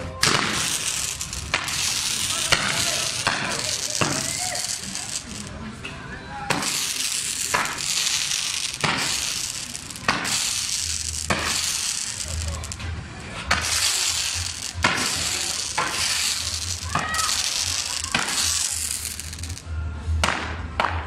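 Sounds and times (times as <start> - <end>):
firework bangs: 0.0 - 5.7, 6.4 - 20.5
fireworks hissing: 0.0 - 19.7.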